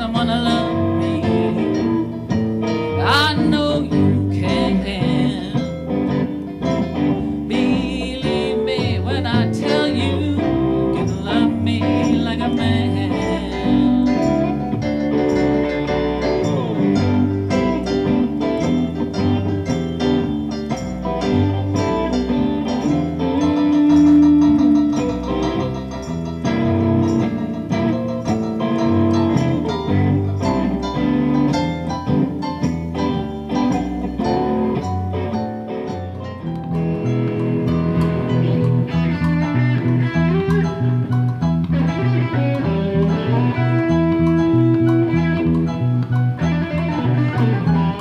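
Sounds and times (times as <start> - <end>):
electric guitar lead: 0.0 - 48.0
live country-blues band: 0.0 - 48.0.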